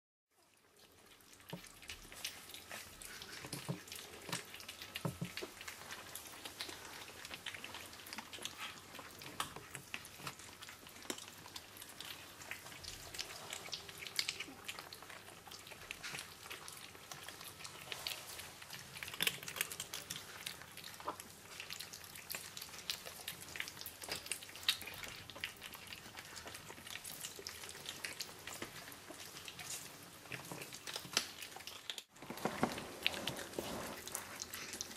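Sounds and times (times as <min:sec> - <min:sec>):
kittens chewing wet food: 0:00.3 - 0:34.9.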